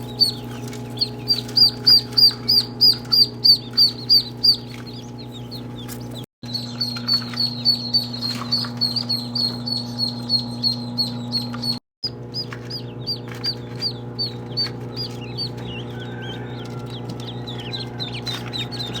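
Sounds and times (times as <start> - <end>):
ducklings peeping: 0.0 - 19.0
steady low hum: 0.0 - 19.0.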